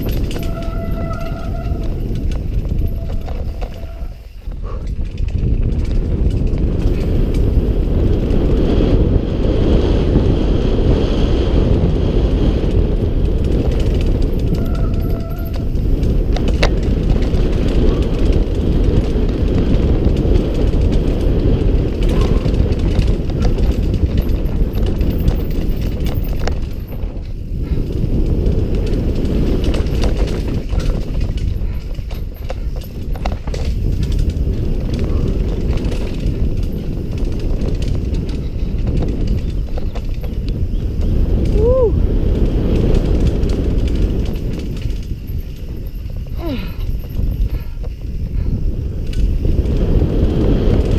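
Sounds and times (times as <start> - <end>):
bike clicks and rattles: 0.0 - 50.9
tyres rumbling over dirt: 0.0 - 50.9
wind rushing over microphone: 0.0 - 50.9.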